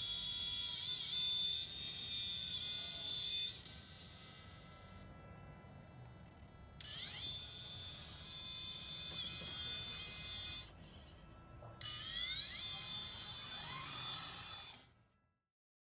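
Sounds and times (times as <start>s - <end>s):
electric motor whine: 0.0s - 15.5s.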